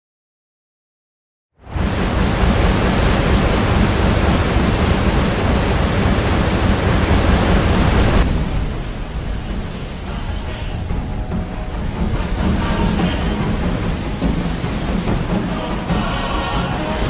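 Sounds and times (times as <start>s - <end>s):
sea waves breaking: 1.6s - 17.0s.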